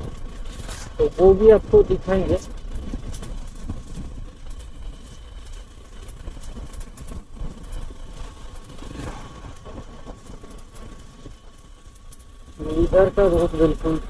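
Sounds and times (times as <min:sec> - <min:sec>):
motorcycle engine running: 0:00.0 - 0:14.0
motorcycle passing: 0:00.0 - 0:14.0
wind rumble on microphone: 0:00.0 - 0:14.0.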